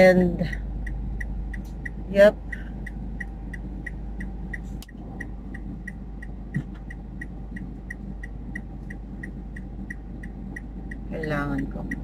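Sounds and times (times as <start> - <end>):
low hum inside car: 0.0 - 12.0
hazard flasher ticking: 0.1 - 12.0.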